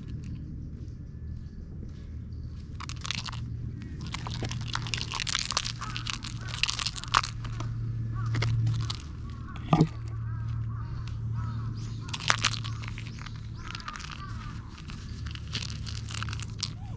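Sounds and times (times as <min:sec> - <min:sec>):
low steady hum: 0:00.0 - 0:16.9
scratchy crackling and rustling: 0:02.8 - 0:16.9.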